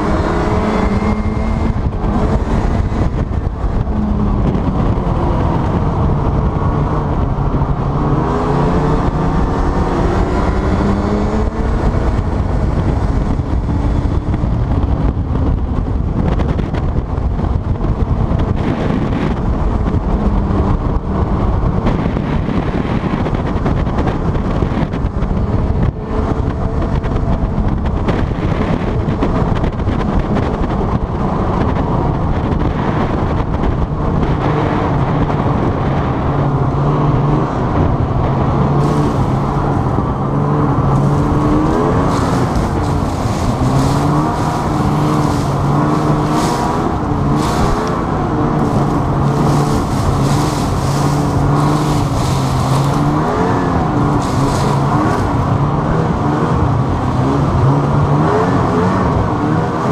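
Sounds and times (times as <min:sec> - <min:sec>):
boat engine running hard: 0:00.0 - 0:59.9
continuous rushing noise: 0:00.0 - 0:59.9.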